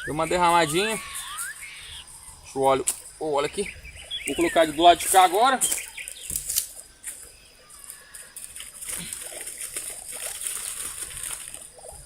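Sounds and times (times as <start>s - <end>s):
dry leaves rustling: 0.0s - 12.0s.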